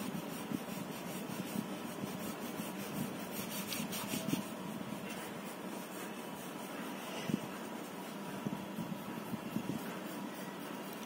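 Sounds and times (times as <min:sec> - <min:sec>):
pencil scratching on paper: 0:00.0 - 0:11.0
steady background hum: 0:00.0 - 0:11.0.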